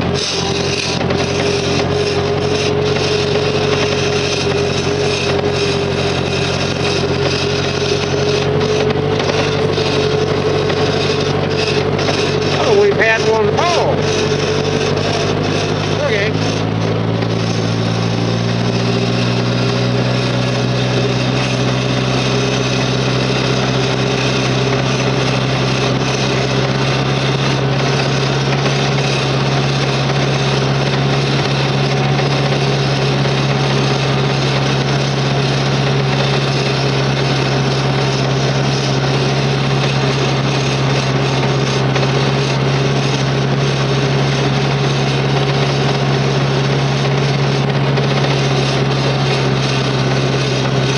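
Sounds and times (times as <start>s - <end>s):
skid steer engine running: 0.0s - 50.9s.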